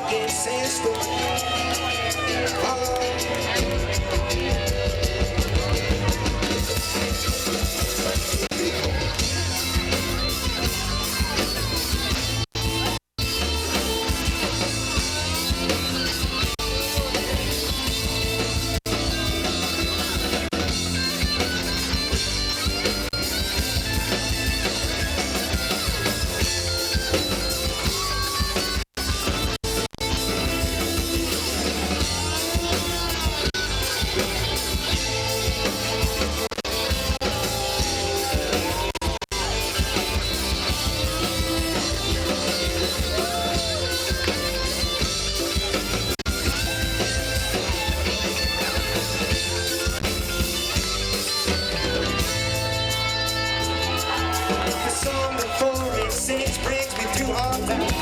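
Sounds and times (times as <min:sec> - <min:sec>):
live reggae band playing: 0:00.0 - 0:58.0.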